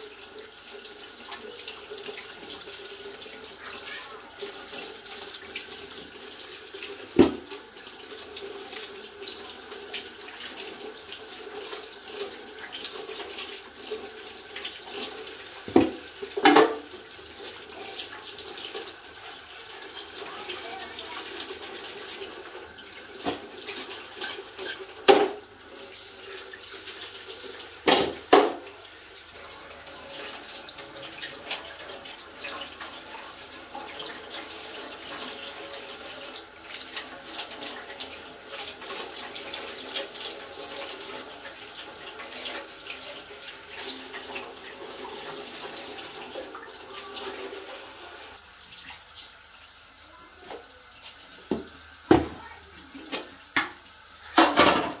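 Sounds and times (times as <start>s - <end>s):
tap water running onto metal tray: 0.0s - 55.0s.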